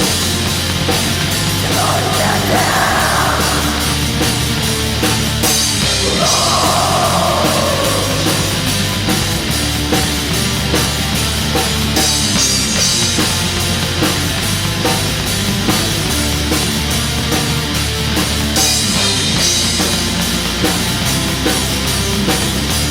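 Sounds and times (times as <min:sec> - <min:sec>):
distorted electric guitars: 0:00.0 - 0:22.9
driving drums: 0:00.0 - 0:22.9.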